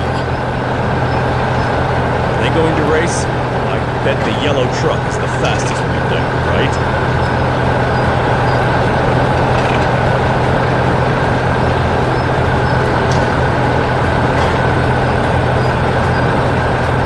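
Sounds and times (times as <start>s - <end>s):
heavy vehicle engines rumbling: 0.0s - 17.0s.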